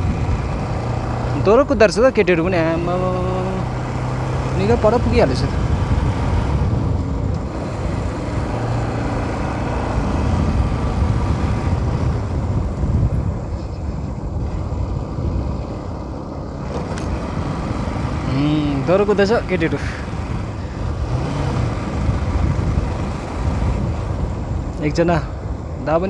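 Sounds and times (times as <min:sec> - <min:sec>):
motorcycle engine rumble: 0:00.0 - 0:26.0
road and wind noise: 0:00.0 - 0:26.0.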